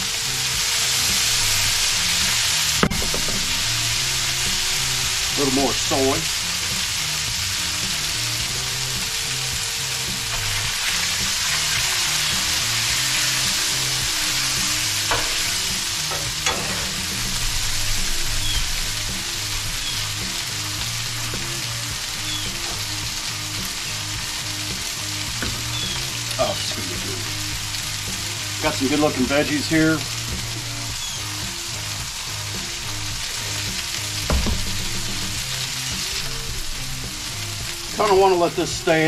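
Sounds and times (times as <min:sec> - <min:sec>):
meat sizzling on a griddle: 0:00.0 - 0:39.0.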